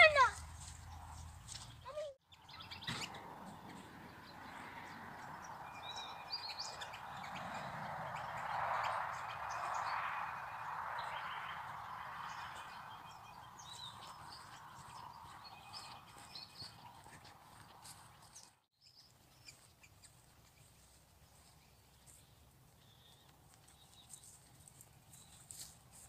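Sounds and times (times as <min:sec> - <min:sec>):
birds chirping: 0:00.0 - 0:25.8.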